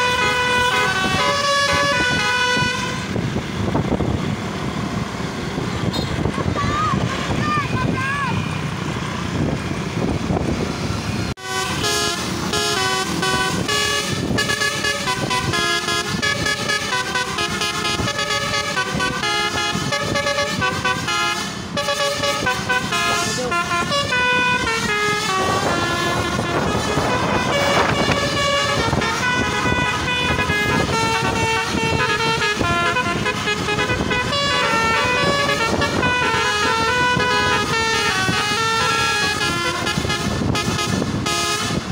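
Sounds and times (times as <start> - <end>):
bus horn playing a tune: 0.0 - 3.3, 11.4 - 41.9.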